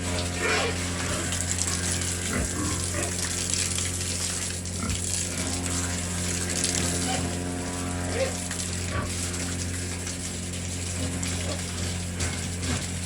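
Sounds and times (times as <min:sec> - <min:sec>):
pigs grunting: 0:00.0 - 0:09.9, 0:10.8 - 0:13.0
low pump hum: 0:00.0 - 0:13.0
water spraying from a hose: 0:00.0 - 0:13.0.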